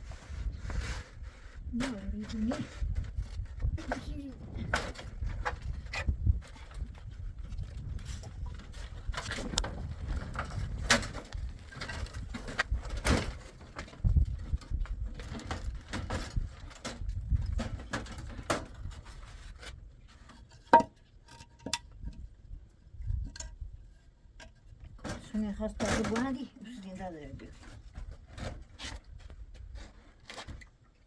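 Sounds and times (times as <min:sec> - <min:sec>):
knocks and clatter of handling: 0:01.8 - 0:22.3, 0:24.4 - 0:31.0.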